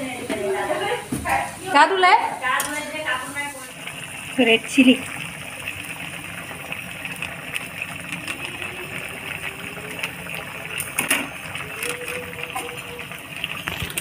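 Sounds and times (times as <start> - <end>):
gravy simmering with a hiss: 0.0 - 14.0.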